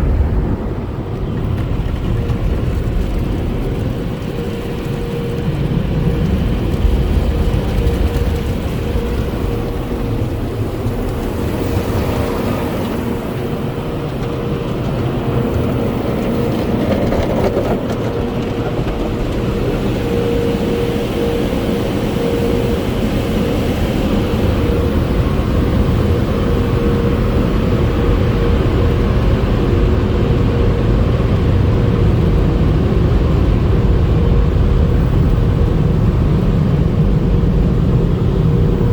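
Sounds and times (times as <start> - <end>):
car wash machinery humming: 0.0 - 38.9.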